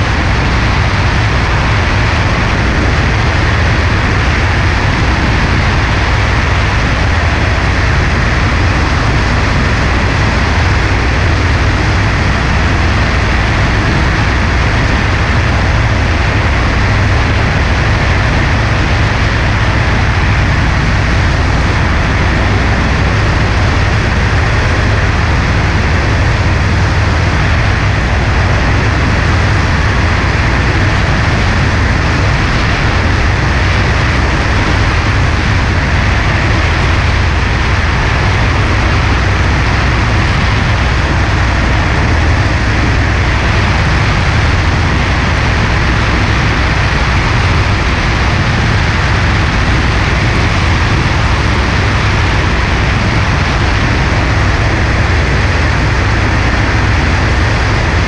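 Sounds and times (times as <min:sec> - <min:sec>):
aircraft engine and propeller: 0:00.0 - 0:58.0
wind rush: 0:00.0 - 0:58.0.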